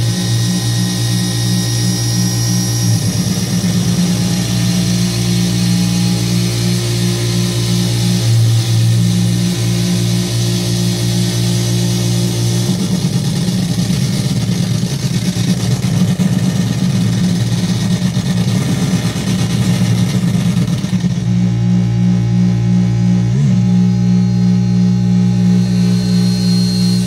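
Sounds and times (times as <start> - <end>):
low electronic drone: 0.0 - 27.0.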